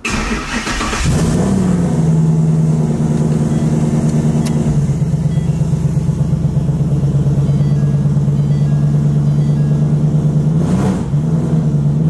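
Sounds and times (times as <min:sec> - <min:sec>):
car engine droning at high revs: 0:00.0 - 0:12.0.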